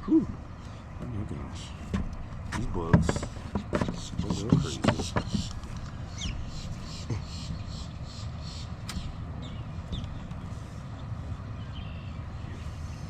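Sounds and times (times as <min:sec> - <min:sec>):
birds chirping: 0:00.0 - 0:13.0
outdoor background rumble: 0:00.0 - 0:13.0.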